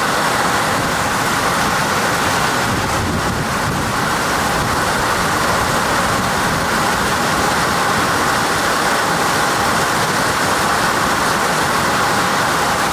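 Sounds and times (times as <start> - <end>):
heavy rain on water: 0.0 - 12.9.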